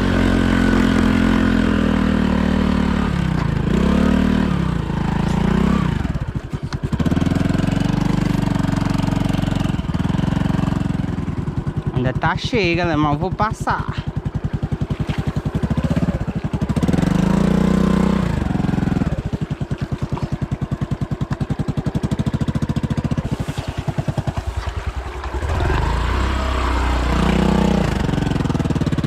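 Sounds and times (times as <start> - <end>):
small vehicle engine running: 0.0 - 29.0.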